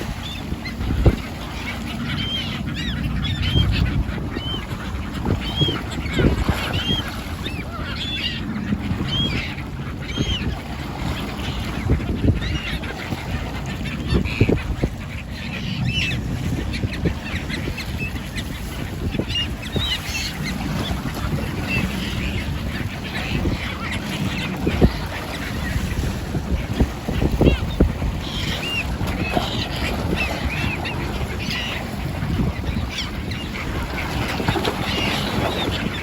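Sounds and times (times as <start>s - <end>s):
flock of birds calling: 0.0s - 36.0s.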